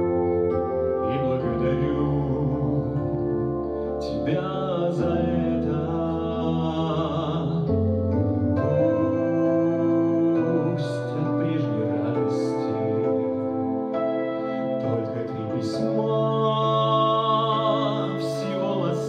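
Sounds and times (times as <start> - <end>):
keyboard accompaniment: 0.0 - 19.0
man singing: 0.0 - 19.0.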